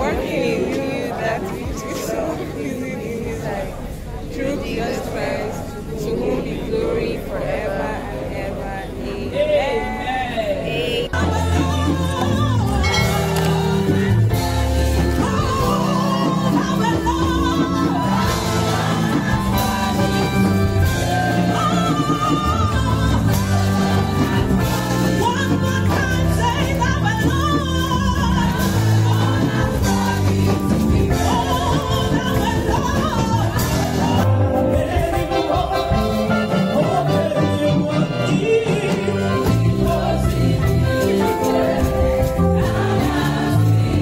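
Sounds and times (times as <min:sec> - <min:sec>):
music with singing voices: 0:00.0 - 0:44.0
steady bass line: 0:04.2 - 0:44.0.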